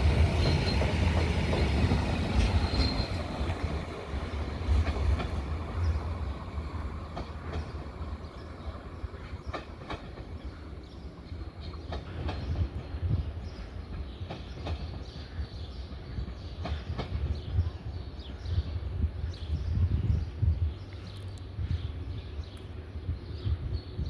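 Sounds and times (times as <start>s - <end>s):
train wheels rumbling: 0.0s - 22.8s.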